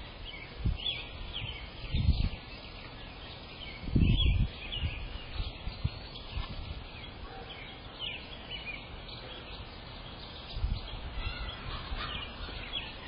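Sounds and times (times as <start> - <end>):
wind rumble on microphone: 0.0 - 8.1, 10.0 - 13.0
birds chirping: 0.0 - 13.0.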